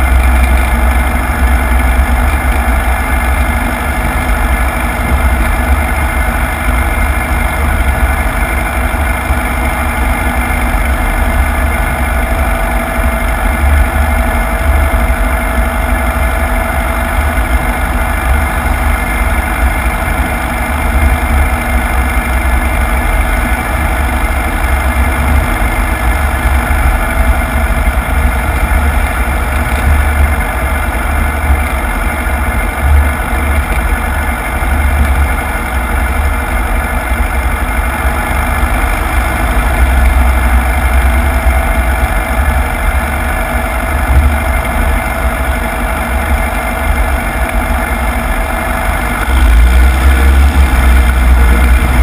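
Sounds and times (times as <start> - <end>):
propeller plane engine running: 0.0 - 52.0.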